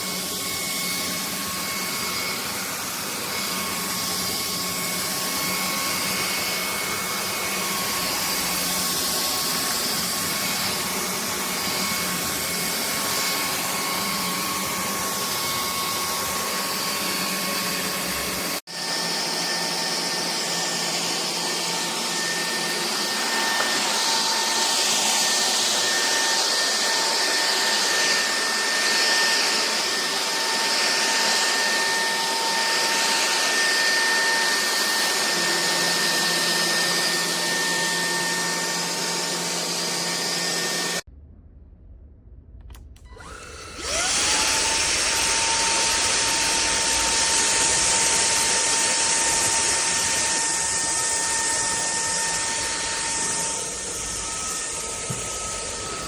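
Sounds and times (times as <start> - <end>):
stick vacuum cleaner running: 0.0 - 41.0, 42.7 - 56.0.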